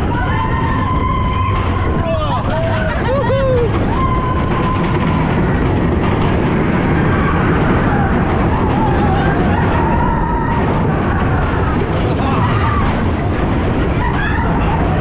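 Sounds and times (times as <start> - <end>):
roller coaster train rumbling: 0.0 - 15.0.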